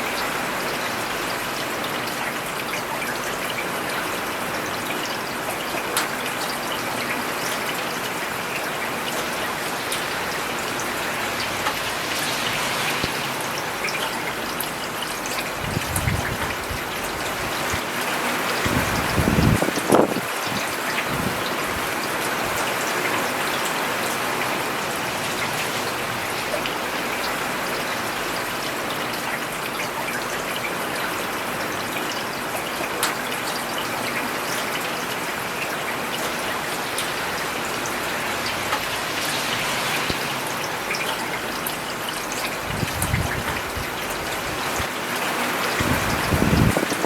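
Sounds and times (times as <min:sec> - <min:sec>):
rain falling on a road: 0:00.0 - 0:47.0
raindrops pattering: 0:00.0 - 0:47.0.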